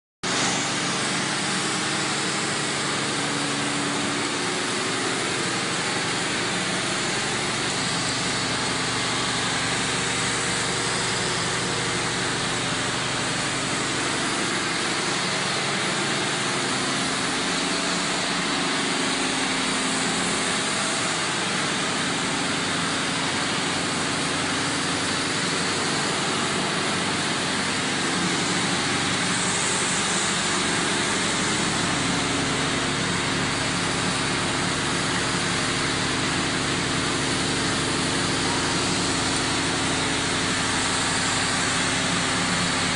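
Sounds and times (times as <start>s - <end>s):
processing machinery humming: 0.3s - 42.9s.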